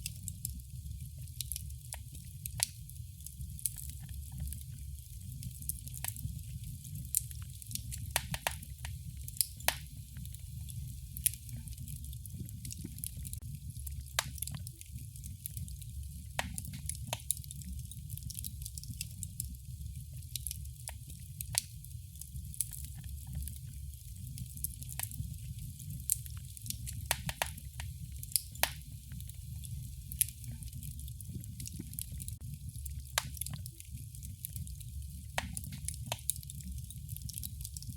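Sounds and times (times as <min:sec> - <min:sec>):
low rumble of flames: 0:00.0 - 0:37.9
wood fire snaps and pops: 0:00.0 - 0:37.9.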